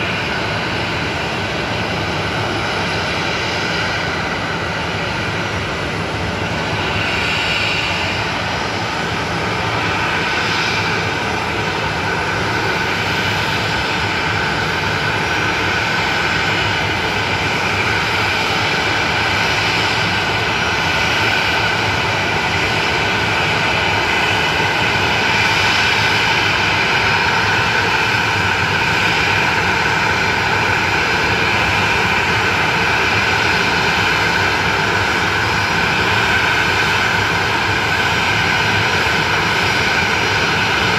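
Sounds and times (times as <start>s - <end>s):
jet engine whine: 0.0s - 40.9s.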